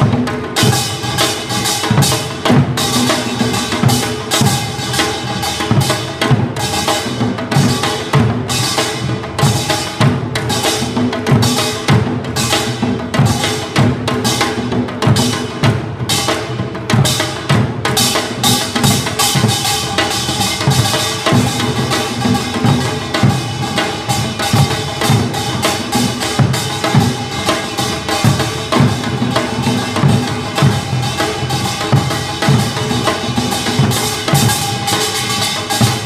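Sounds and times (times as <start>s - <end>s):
drum ensemble playing: 0.0s - 36.0s.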